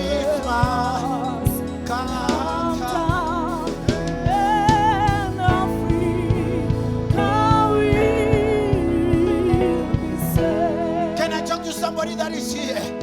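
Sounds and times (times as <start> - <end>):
gospel instrumental backing: 0.0 - 13.0
person singing with vibrato: 0.0 - 13.0.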